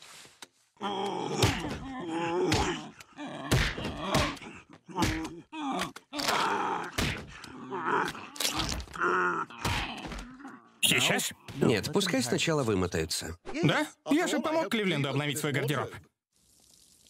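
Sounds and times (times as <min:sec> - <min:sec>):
men bellowing and groaning: 0:00.8 - 0:12.4, 0:13.5 - 0:15.9.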